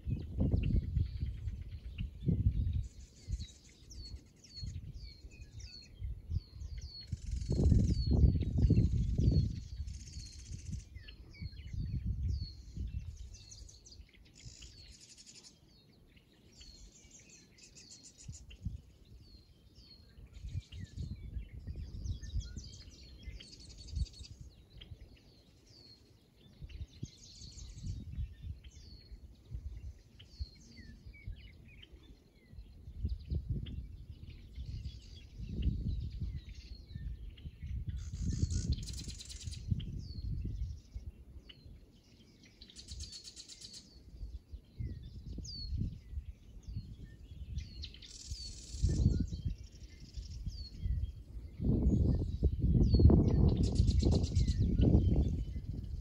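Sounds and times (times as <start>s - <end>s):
songbirds whistling: 0.0s - 56.0s
wind rumble on microphone: 0.0s - 56.0s.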